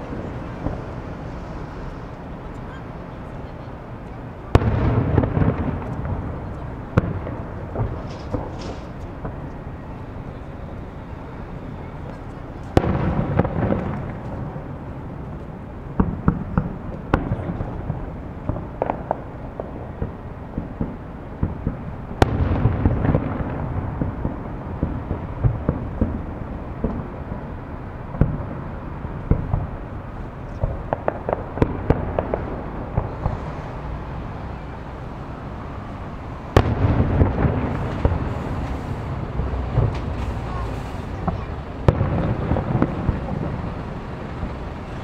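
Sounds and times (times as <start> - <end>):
firework bangs: 0.0 - 45.0
firework crackling rumble: 0.0 - 45.0.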